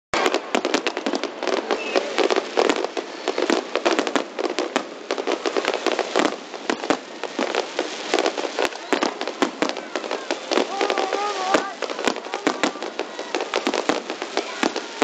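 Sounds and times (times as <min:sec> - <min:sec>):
fireworks bangs and crackles: 0:00.2 - 0:15.0.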